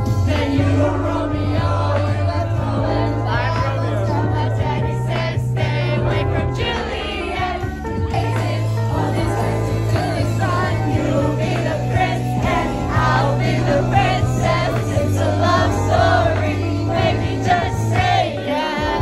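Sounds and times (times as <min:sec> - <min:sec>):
people singing along: 0:00.0 - 0:19.0
pop song over sound system: 0:00.0 - 0:19.0.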